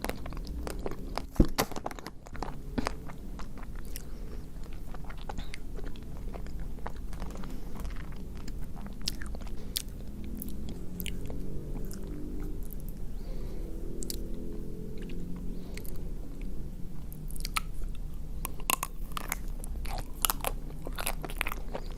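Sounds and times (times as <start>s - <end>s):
wet chewing: 0.0s - 21.9s.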